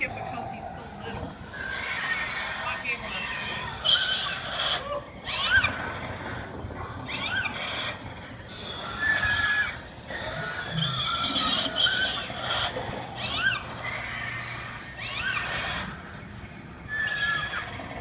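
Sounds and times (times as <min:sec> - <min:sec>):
dinosaur calls from speakers: 0:00.0 - 0:16.2
low hum: 0:00.0 - 0:18.0.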